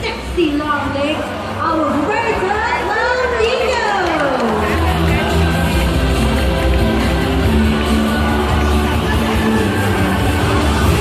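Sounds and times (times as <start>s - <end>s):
faint crowd noise: 0.0s - 11.0s
upbeat music over loudspeakers: 0.0s - 11.0s.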